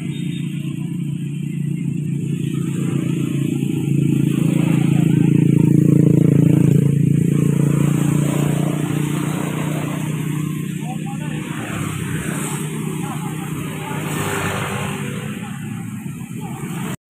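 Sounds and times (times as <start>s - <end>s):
vehicle engine droning past: 0.0s - 17.0s.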